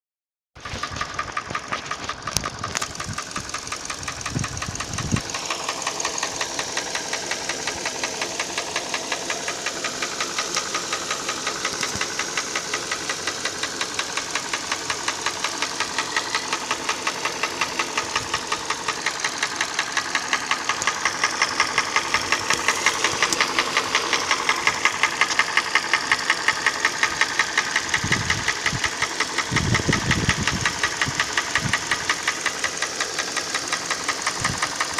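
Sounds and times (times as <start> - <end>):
car engine running: 0.6 - 34.9
engine knocking: 0.6 - 34.9.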